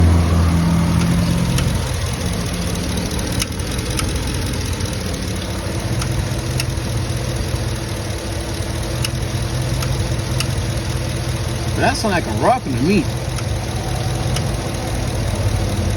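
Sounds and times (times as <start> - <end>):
car engine idling: 0.0 - 15.9
sharp irregular engine ticks: 0.0 - 15.9.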